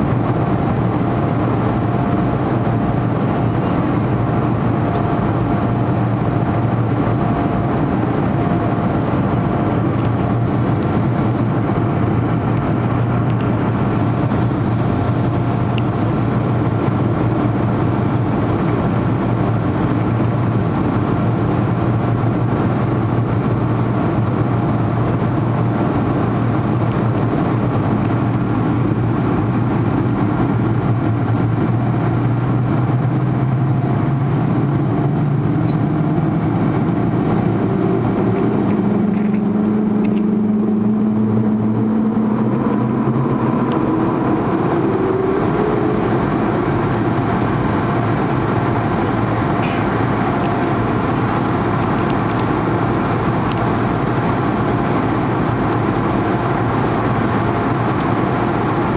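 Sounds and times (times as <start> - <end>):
jet engines and airflow rushing: 0.0 - 58.9.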